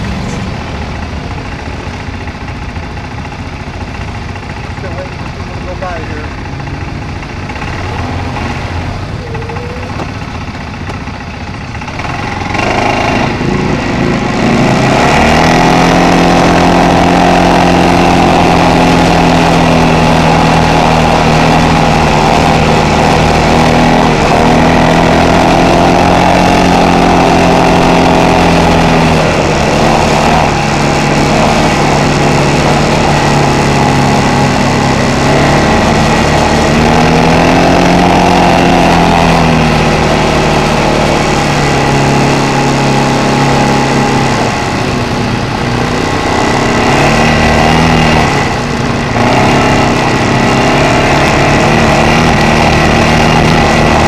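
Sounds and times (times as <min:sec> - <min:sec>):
atv engine running: 0:00.0 - 0:54.0
road and wind noise: 0:00.0 - 0:54.0.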